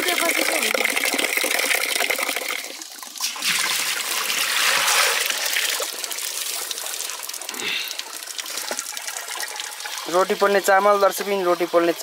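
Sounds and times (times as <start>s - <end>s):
water pouring into colander: 0.0s - 12.0s.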